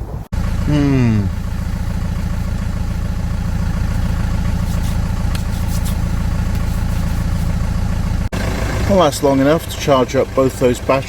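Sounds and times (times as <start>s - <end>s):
van engine idling: 0.3s - 11.0s.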